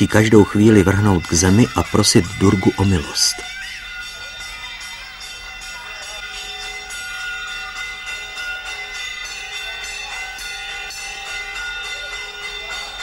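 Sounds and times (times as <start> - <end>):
metal temple bells ringing: 0.0 - 13.0.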